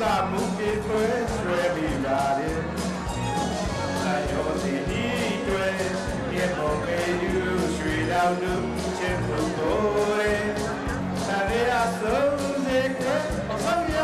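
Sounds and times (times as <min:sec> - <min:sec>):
man singing into a microphone: 0:00.0 - 0:03.0, 0:04.0 - 0:14.0
instrumental music with steady beat: 0:00.0 - 0:14.0.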